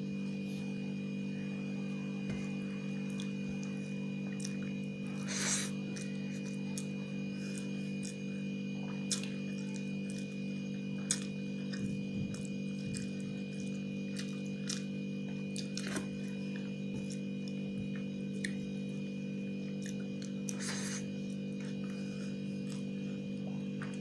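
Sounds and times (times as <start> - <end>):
electrical hum: 0.0 - 24.0
chewing mouth sounds: 3.1 - 10.4, 11.0 - 18.6, 19.7 - 24.0.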